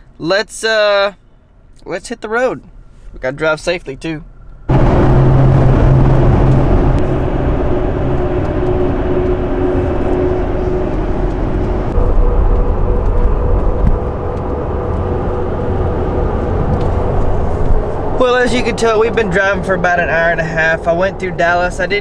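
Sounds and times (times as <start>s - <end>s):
road and engine drone in cab: 0.0s - 22.0s.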